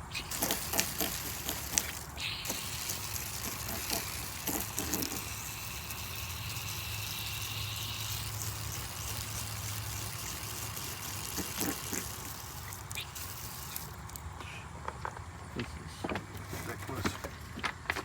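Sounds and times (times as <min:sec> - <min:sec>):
garden hose spraying water: 0:00.0 - 0:14.4
steady low hum: 0:00.0 - 0:18.0.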